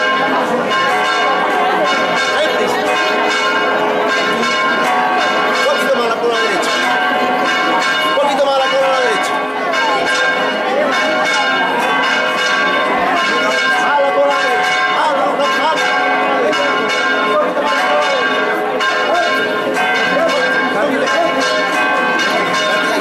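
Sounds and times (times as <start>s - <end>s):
church bells pealing: 0.0s - 23.0s
crowd voices: 0.0s - 23.0s.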